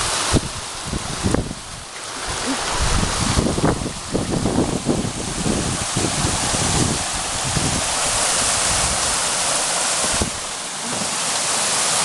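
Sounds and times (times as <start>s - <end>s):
wind buffeting microphone: 0.0s - 10.6s
water rushing through gully: 0.0s - 12.0s.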